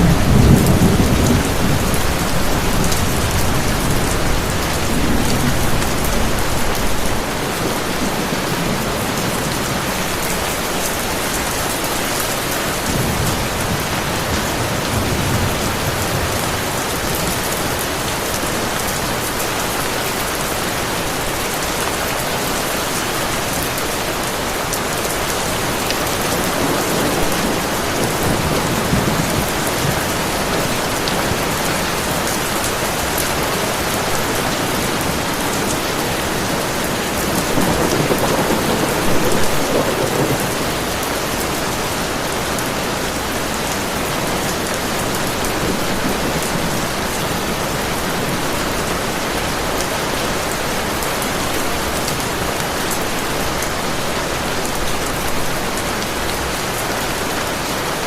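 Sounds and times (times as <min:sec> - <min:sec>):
thunder rumbling: 0:00.0 - 0:19.3, 0:23.7 - 0:55.8
heavy rain pouring: 0:00.0 - 0:58.0.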